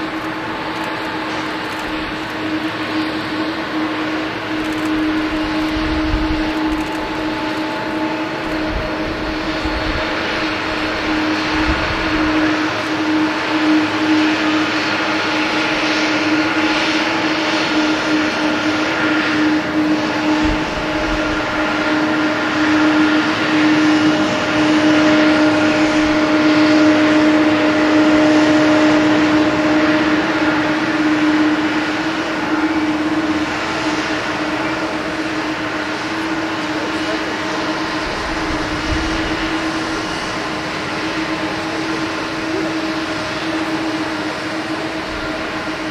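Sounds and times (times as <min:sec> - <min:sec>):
jet engine roar: 0:00.0 - 0:45.9.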